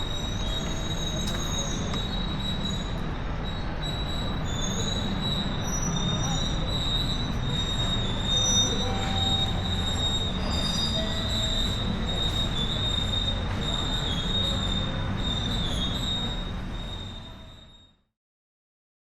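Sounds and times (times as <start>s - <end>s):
train rumble: 0.0s - 17.6s
train squealing: 0.0s - 18.0s.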